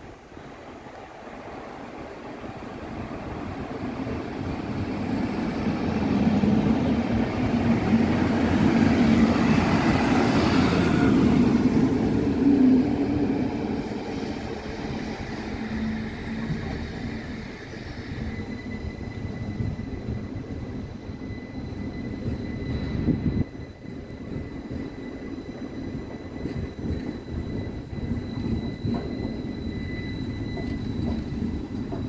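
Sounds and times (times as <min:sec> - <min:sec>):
diesel train engine rumbling: 0:00.0 - 0:32.0
wheel-on-rail noise: 0:01.1 - 0:32.0.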